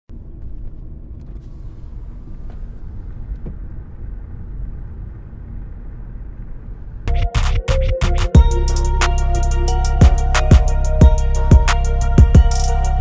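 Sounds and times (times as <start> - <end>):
car engine and tyres rumbling: 0.1 - 13.0.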